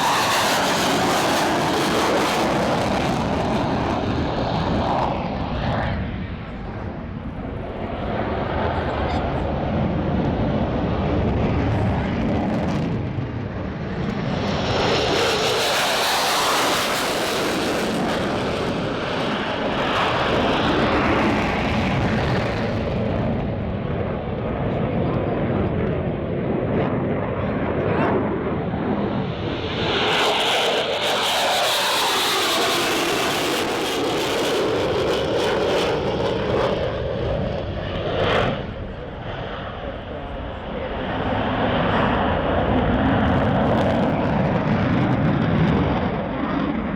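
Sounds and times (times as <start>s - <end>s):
fighter jet engines roaring: 0.0s - 46.9s.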